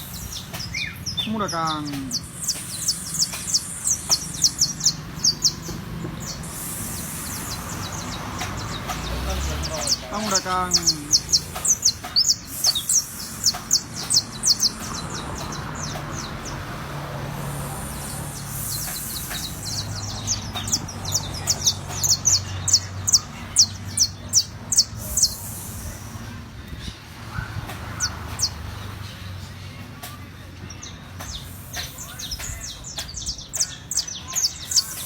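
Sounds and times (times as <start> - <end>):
finch chirping: 0.0 - 26.1, 27.2 - 29.1, 30.7 - 35.0.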